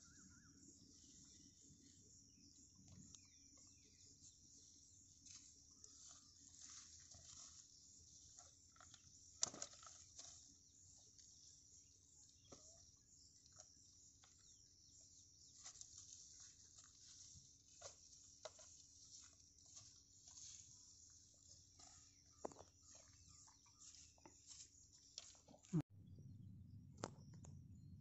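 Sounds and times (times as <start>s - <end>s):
insects chirring: 0.0s - 25.8s.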